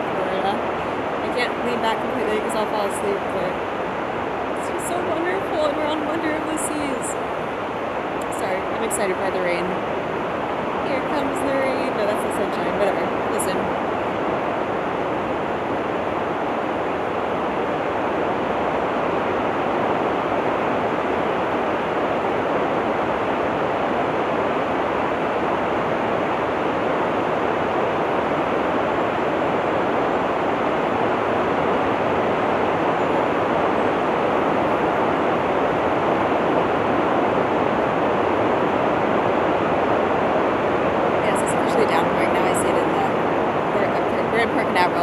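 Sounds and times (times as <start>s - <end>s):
rain falling: 0.0s - 20.1s, 24.4s - 45.0s.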